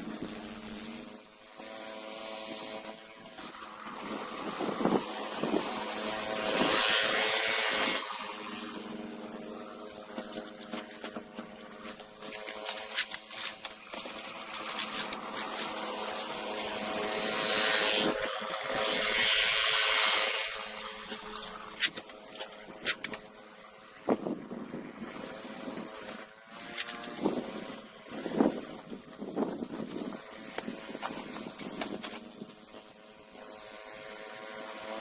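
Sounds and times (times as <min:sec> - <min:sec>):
snowblower engine running: 0:00.0 - 0:35.0.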